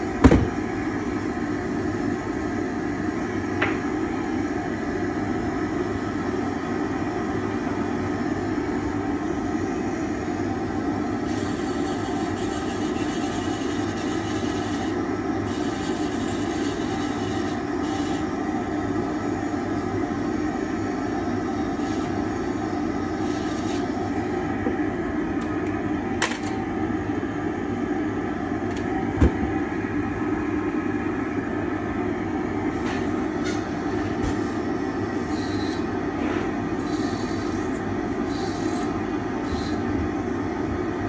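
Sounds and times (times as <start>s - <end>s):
dust extractor droning: 0.0s - 41.0s.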